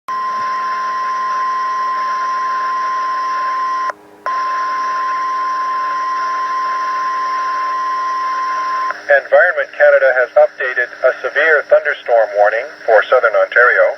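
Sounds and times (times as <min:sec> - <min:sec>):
steady warning alarm tone: 0:00.1 - 0:13.9
radio hiss: 0:00.2 - 0:13.9.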